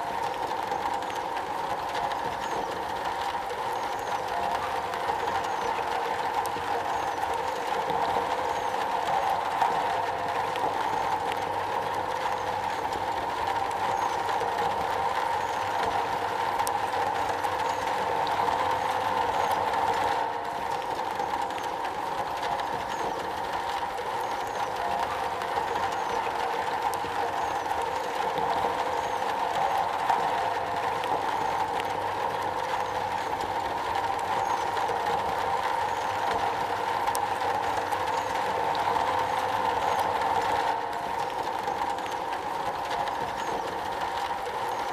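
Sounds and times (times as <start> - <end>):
heavy rain on a metal roof: 0.0 - 44.9.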